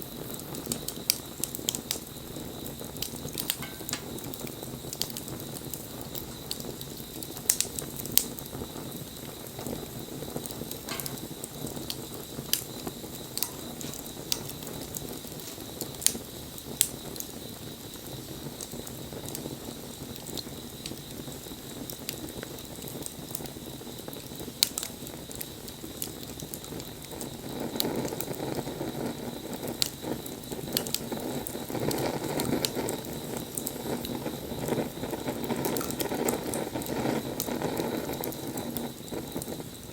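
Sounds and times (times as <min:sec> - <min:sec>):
bonfire crackling: 0:00.0 - 0:39.9
flame rushing: 0:00.1 - 0:22.8, 0:26.8 - 0:39.9.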